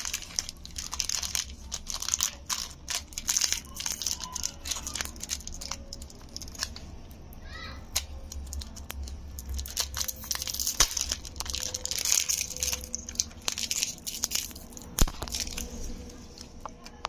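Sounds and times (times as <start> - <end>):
cellophane wrapper crinkling: 0.0 - 7.2, 7.8 - 17.0.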